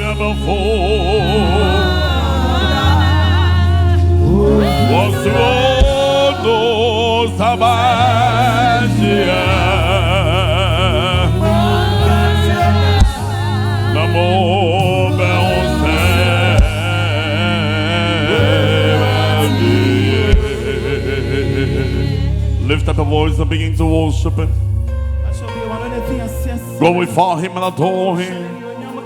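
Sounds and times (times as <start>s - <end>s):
bass and keyboard: 0.0s - 29.0s
singers holding long notes: 0.0s - 29.0s.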